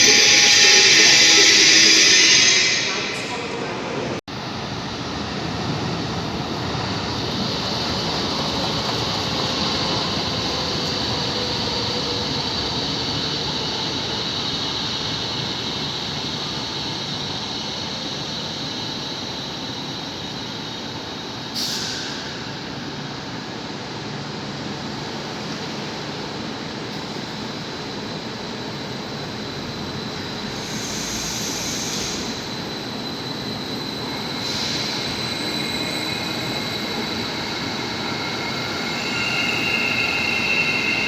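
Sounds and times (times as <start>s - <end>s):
train rumble and hiss: 0.0s - 41.0s.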